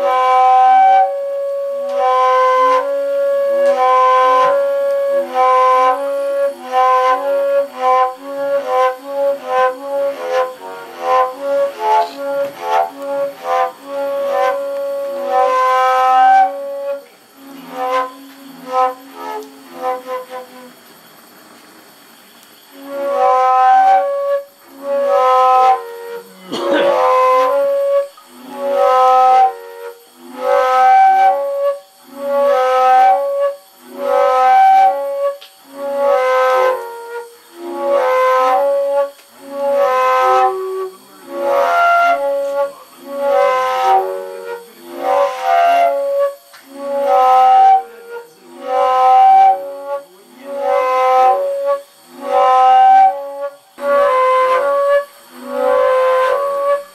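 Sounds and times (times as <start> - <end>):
flute music: 0.0 - 20.8, 22.7 - 56.9.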